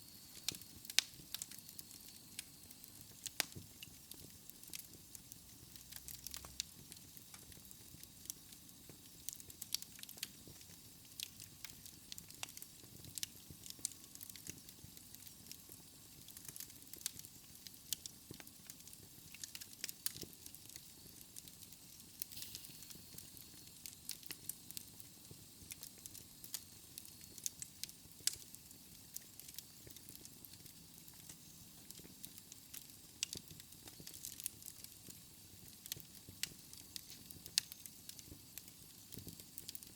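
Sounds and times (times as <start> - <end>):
fire crackling and popping: 0.0 - 39.9
hiss of flame: 0.0 - 39.9.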